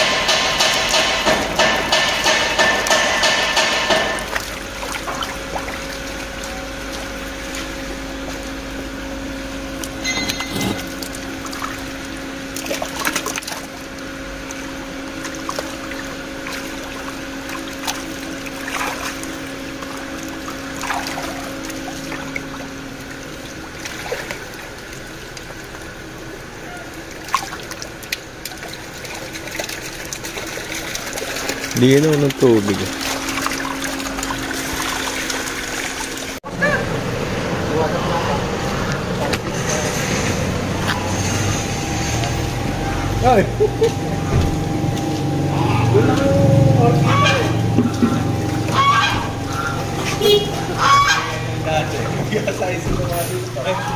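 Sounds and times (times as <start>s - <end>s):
water splashing: 0.0s - 36.8s, 40.4s - 53.9s
water sloshing in plastic tubs: 0.0s - 37.7s, 38.3s - 53.9s
low hum: 0.0s - 53.9s.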